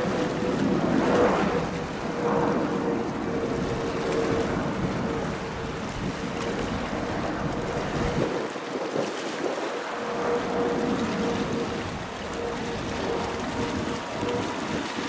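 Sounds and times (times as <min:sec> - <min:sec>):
distant jet engine rumble: 0:00.0 - 0:15.0
wind buffeting microphone: 0:00.0 - 0:15.0.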